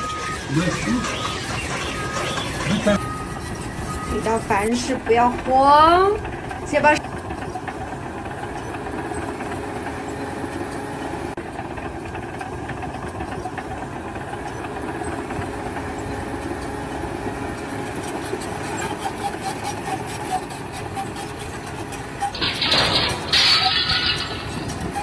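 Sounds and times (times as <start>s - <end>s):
machine engine running: 0.0s - 25.0s.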